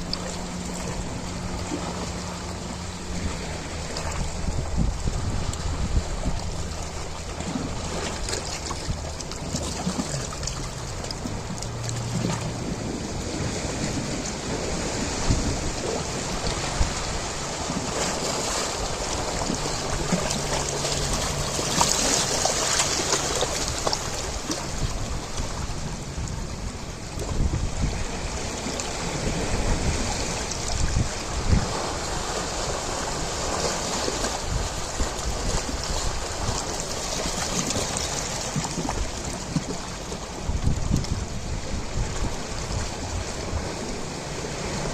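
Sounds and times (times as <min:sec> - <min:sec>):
ocean waves breaking: 0:00.0 - 0:44.9
wind buffeting microphone: 0:00.0 - 0:44.9.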